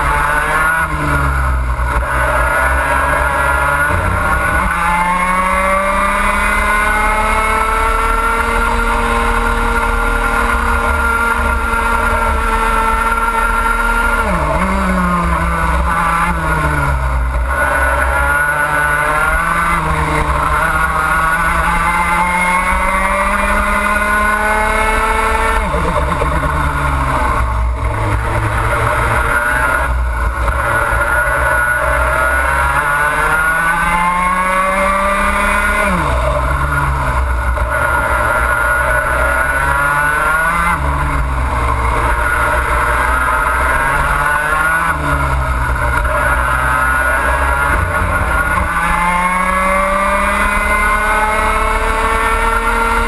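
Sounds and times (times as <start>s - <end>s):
two-stroke kart engine revving: 0.0s - 53.0s.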